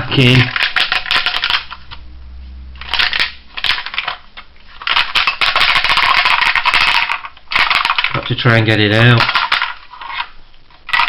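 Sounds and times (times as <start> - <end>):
plastic toy parts clattering: 0.0 - 2.0, 2.8 - 11.0.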